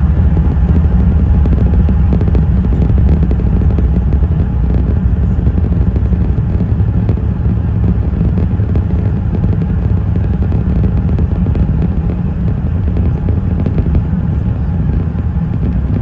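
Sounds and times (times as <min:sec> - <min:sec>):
airplane cabin low rumble: 0:00.0 - 0:16.0.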